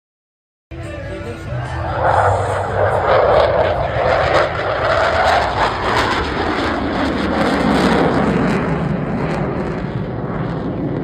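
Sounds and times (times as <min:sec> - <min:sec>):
jet engines roaring overhead: 0:01.1 - 0:11.0.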